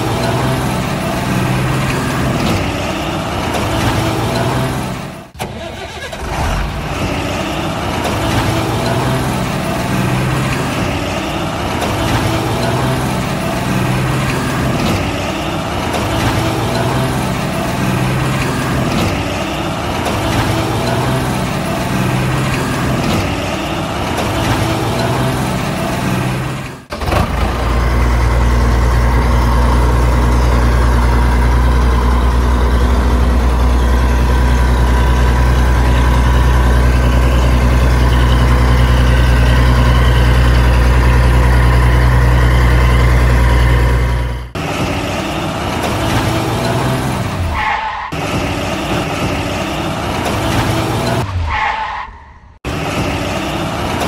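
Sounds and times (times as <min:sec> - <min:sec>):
heavy engine pulsing: 0:00.0 - 0:54.0.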